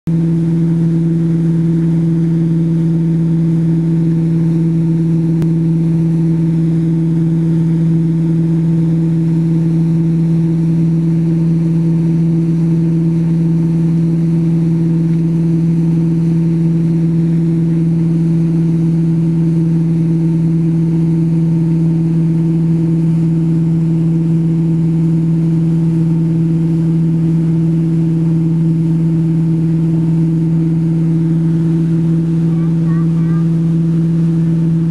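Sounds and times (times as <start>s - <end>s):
boat engine droning: 0.1s - 34.9s
wind: 0.1s - 34.9s.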